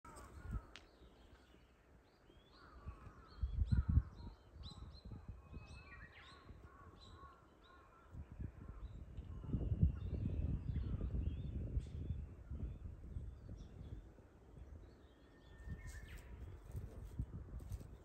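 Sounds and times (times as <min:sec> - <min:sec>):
birds chirping and calling: 0:00.1 - 0:12.8, 0:14.8 - 0:18.0.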